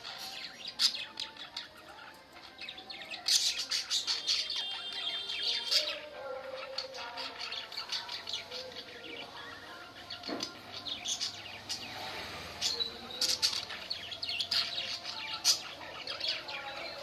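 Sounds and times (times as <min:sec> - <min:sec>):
budgerigars chattering and warbling: 0:00.0 - 0:09.4, 0:10.0 - 0:17.0.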